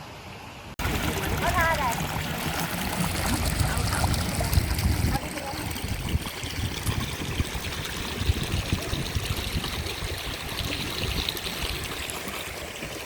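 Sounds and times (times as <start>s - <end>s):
water trickling over rock: 0.8s - 13.0s.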